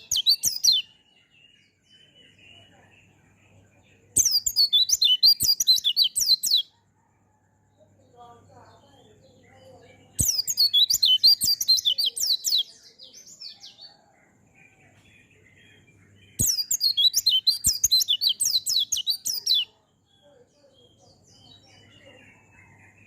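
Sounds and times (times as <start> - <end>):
small bird singing rapid notes: 0.0 - 6.9, 8.0 - 23.0.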